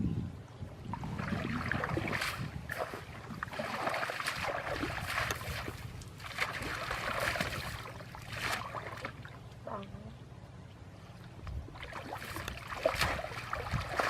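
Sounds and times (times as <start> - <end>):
steady low rumble: 0.0 - 14.0
water sloshing and splashing: 0.8 - 9.9, 10.9 - 14.0.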